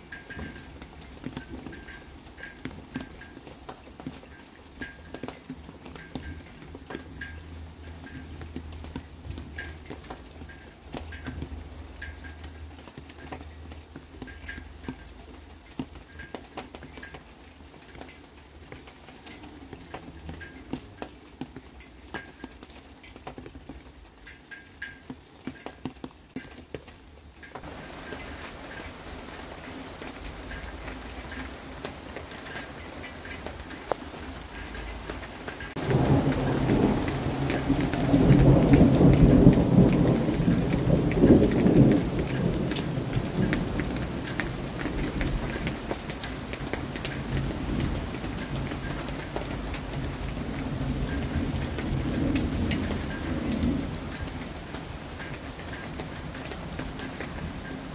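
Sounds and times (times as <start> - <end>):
rain drips pattering: 0.0 - 57.9
steady hiss of falling rain: 0.0 - 57.9.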